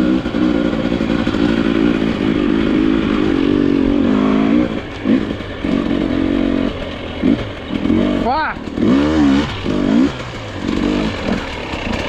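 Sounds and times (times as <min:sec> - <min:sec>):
dirt bike engine under load: 0:00.0 - 0:12.0.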